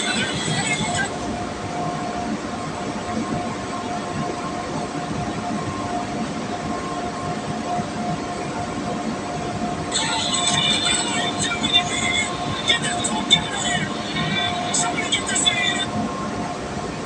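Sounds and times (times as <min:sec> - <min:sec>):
machine rumble and hiss: 0:00.0 - 0:17.0.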